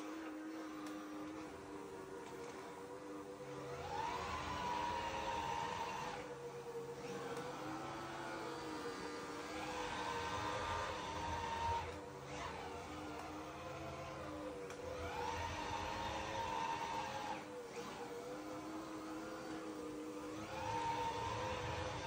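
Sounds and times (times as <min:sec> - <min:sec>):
robot vacuum whirring hum: 0:00.0 - 0:22.0.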